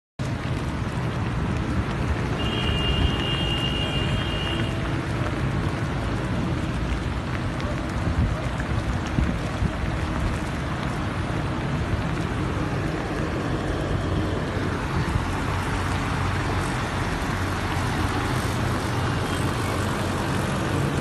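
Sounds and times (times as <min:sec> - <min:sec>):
heavy rain and floodwater rushing: 0:00.2 - 0:21.0
vehicle engines humming: 0:00.2 - 0:21.0.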